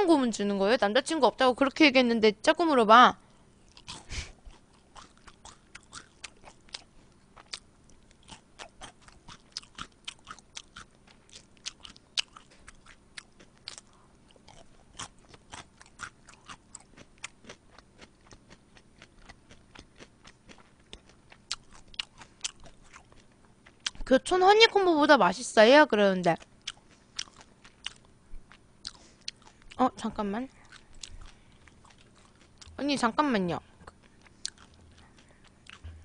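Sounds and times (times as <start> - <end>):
crunchy chewing of fried chicken: 3.7 - 24.1, 26.3 - 29.8, 30.5 - 36.0.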